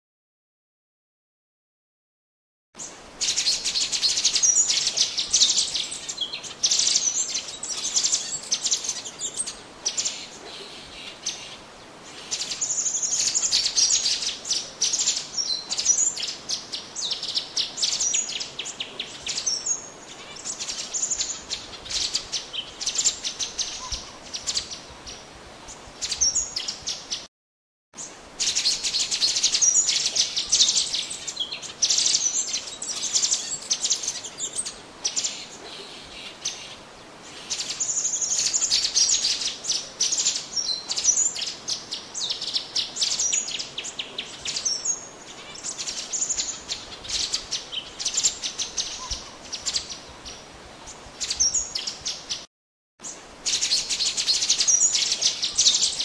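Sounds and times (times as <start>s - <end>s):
bird chirping and trilling: 2.8s - 27.3s, 28.0s - 50.5s, 51.2s - 56.0s.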